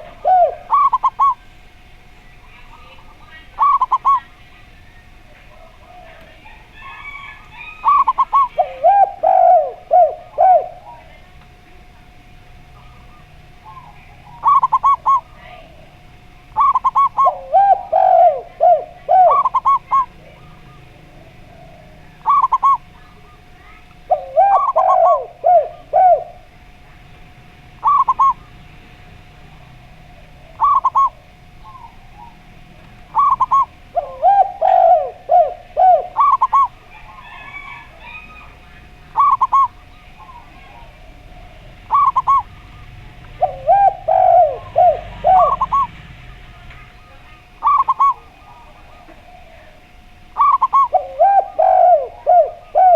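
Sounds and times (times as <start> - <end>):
doves cooing: 0.0 - 52.9
faint steady hum: 0.0 - 52.9.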